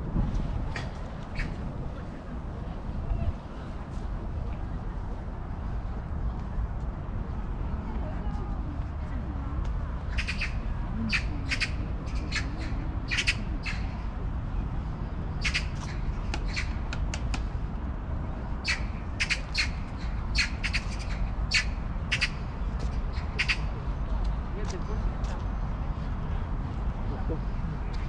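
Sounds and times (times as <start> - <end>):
low outdoor background hum: 0.0 - 28.0.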